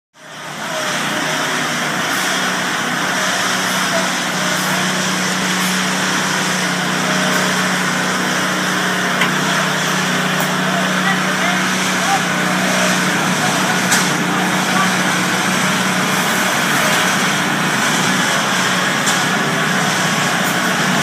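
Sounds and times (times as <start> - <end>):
concrete pouring hiss: 0.2 - 21.0
truck engine hum: 0.2 - 21.0.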